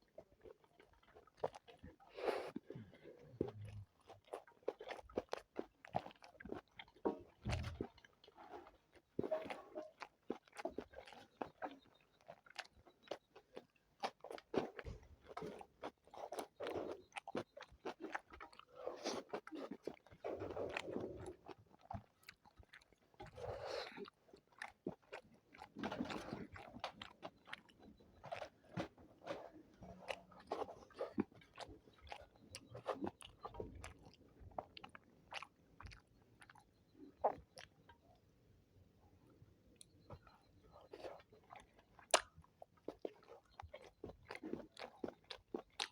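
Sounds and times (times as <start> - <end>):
crunchy bites and chewing: 0.4 - 37.8, 39.8 - 45.9.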